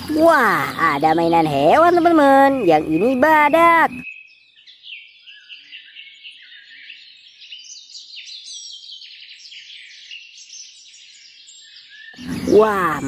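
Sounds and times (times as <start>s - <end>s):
birds chirping chorus: 0.0s - 13.0s.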